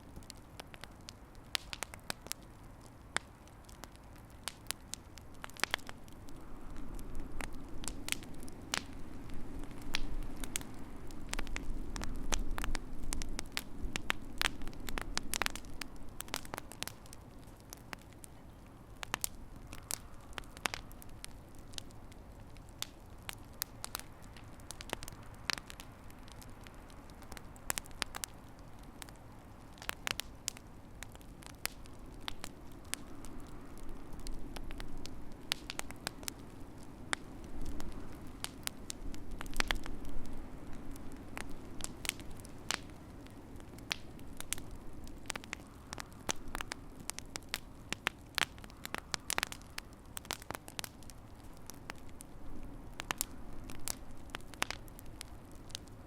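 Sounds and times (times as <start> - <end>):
low rush of flames: 0.0 - 56.0
wood fire crackling and popping: 0.0 - 56.0.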